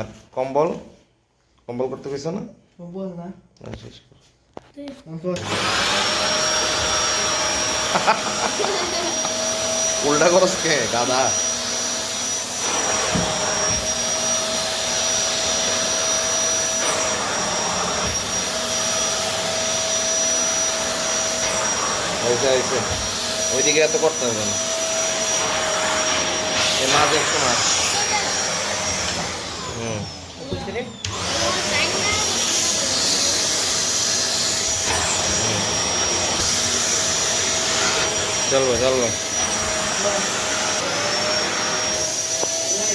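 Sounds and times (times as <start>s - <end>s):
vacuum cleaner running: 5.4s - 42.9s.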